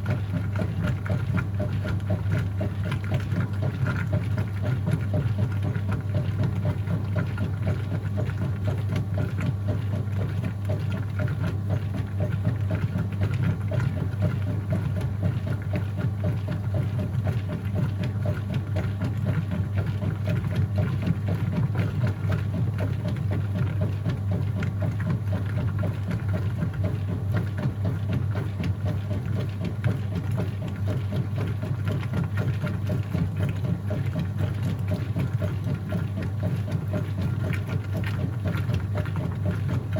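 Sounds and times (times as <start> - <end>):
washing machine motor hum: 0.0 - 39.9
water churning and sloshing: 0.0 - 39.9.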